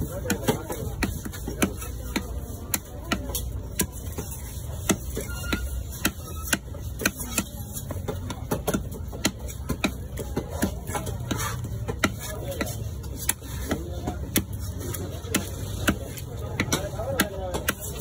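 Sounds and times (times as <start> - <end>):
knife chopping on wooden block: 0.2 - 18.0.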